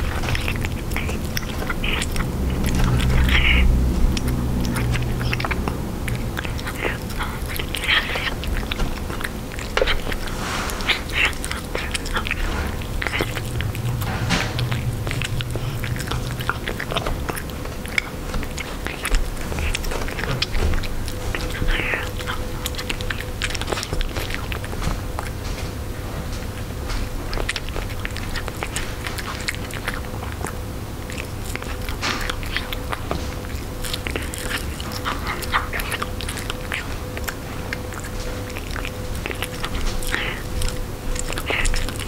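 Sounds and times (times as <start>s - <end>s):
cat chewing wet food: 0.0s - 42.0s.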